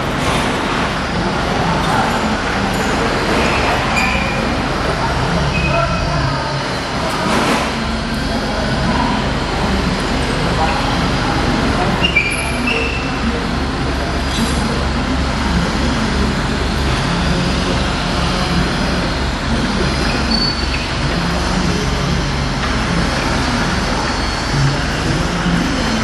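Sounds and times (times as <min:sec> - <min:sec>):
hydraulic system low pulsing drone: 0:00.0 - 0:26.0.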